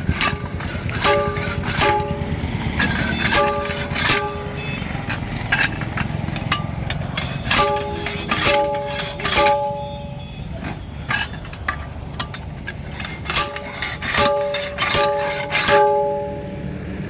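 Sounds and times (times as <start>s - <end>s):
hammer striking steel wheel rim: 0.0s - 16.7s.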